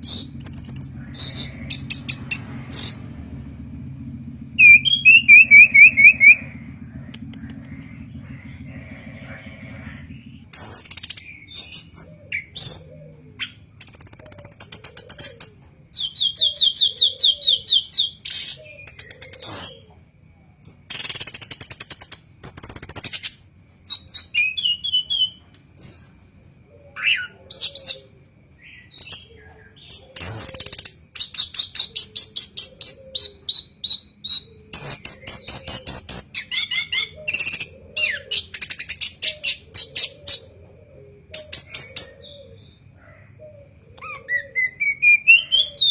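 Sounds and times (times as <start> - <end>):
thrush singing with rattling trills: 0.0 - 20.0, 20.7 - 45.9.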